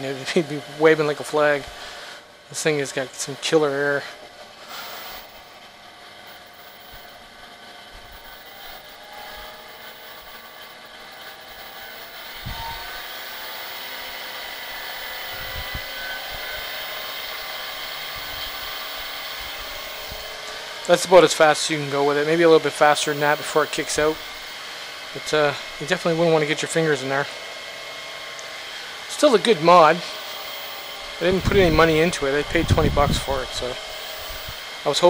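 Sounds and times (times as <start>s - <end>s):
electric fan whirring: 0.0s - 35.0s.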